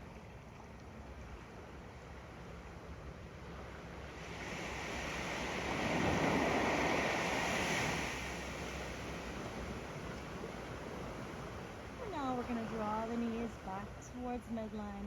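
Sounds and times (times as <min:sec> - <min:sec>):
ocean waves washing on sand: 0:02.4 - 0:15.0.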